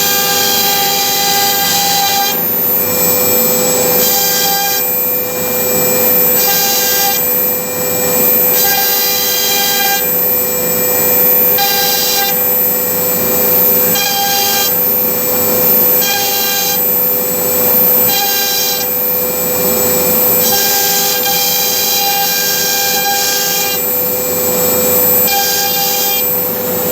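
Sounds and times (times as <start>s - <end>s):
router spindle whine: 0.0s - 26.9s.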